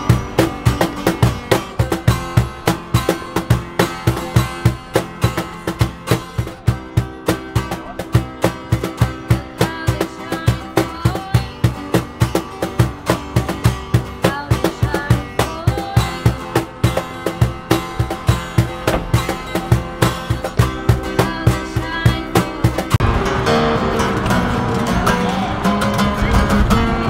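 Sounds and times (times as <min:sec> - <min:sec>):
steady drum beat: 0:00.0 - 0:23.0
guitar playing: 0:00.0 - 0:27.0.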